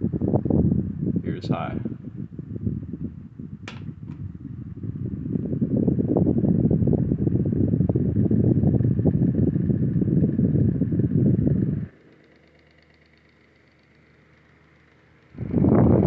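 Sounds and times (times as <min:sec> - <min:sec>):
faint hum: 0:00.0 - 0:16.0
fan airflow buffeting microphone: 0:00.0 - 0:16.0.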